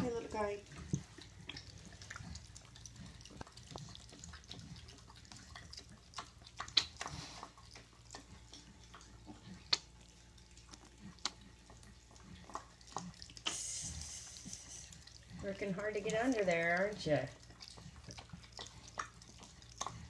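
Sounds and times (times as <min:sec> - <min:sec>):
piglets lapping and suckling: 0:00.0 - 0:20.0.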